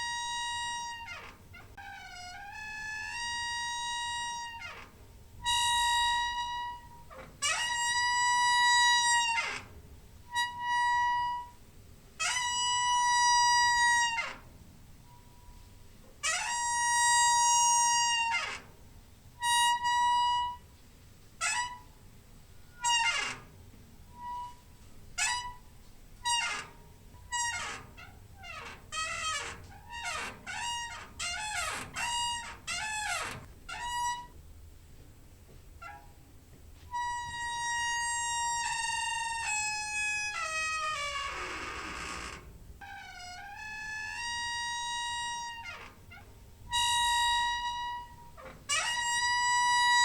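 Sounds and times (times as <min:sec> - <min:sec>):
door hinge squeaking: 0:00.0 - 0:11.6, 0:12.2 - 0:18.8, 0:19.4 - 0:20.7, 0:21.4 - 0:34.4, 0:35.8 - 0:36.2, 0:36.9 - 0:50.0.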